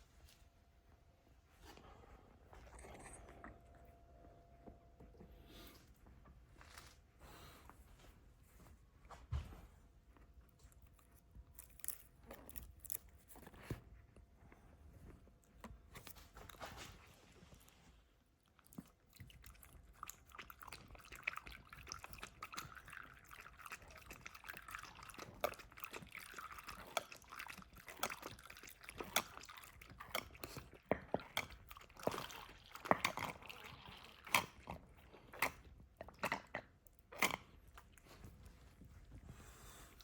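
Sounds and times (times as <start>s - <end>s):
dog chewing and crunching food: 1.9s - 5.5s, 10.2s - 40.0s.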